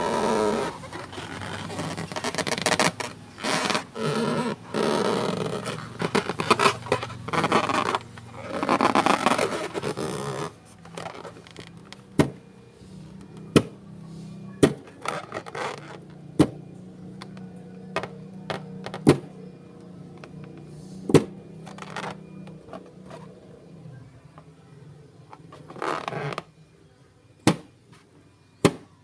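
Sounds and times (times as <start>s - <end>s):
scraping and rubbing handling noise: 0.0s - 23.6s, 25.2s - 26.5s.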